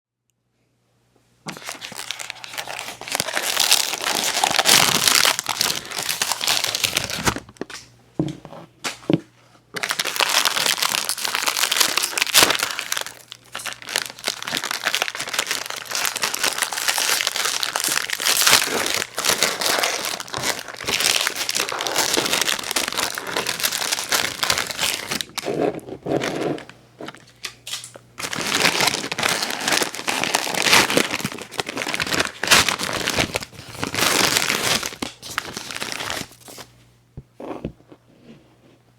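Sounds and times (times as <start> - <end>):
wrapper tearing: 1.5 - 7.7, 9.8 - 36.7
wrapper crinkling and crackling: 1.5 - 7.8, 9.8 - 36.7.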